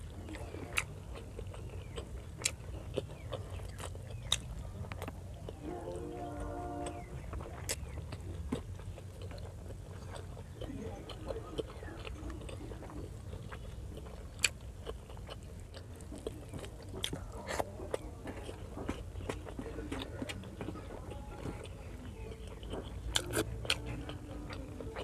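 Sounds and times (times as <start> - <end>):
person chewing food: 0.0 - 25.0
steady low hum: 0.0 - 25.0.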